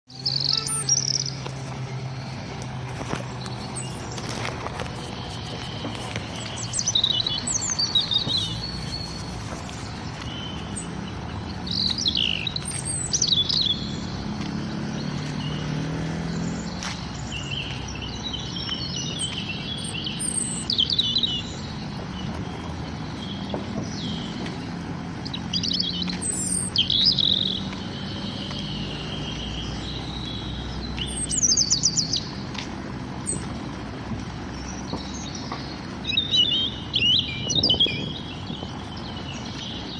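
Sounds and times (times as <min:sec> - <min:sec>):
songbirds chirping and trilling: 0:00.1 - 0:39.9.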